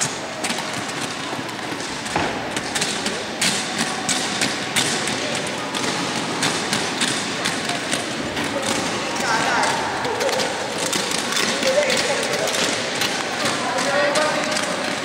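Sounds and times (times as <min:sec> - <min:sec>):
skis tapping on hard floor: 0:00.0 - 0:15.0.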